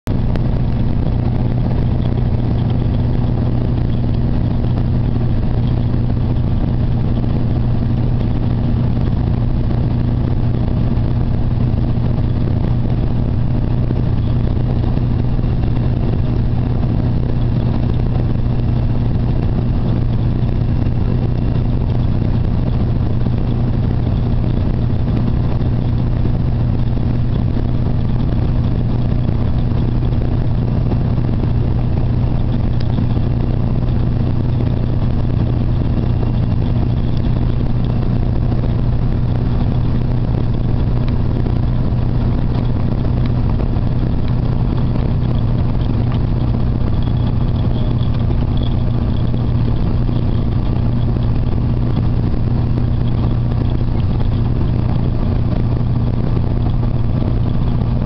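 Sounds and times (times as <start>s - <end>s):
truck engine droning: 0.0s - 58.0s
tyre and road noise: 0.0s - 58.0s.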